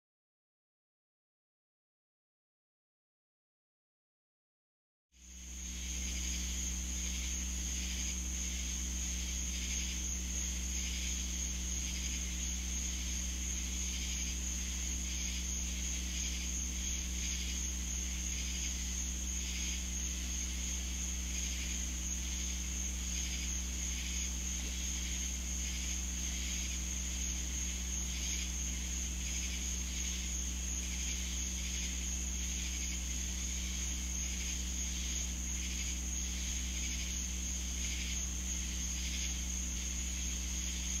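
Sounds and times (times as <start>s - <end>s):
high-pitched insect trill: 5.2s - 41.0s
pulsing insect chorus: 5.2s - 41.0s
steady low hum: 5.2s - 41.0s.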